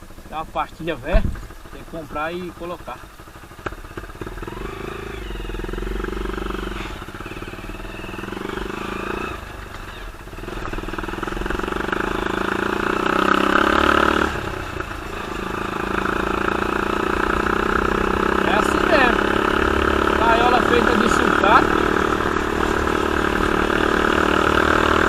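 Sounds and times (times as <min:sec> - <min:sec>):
small buggy engine revving: 0:03.7 - 0:25.0.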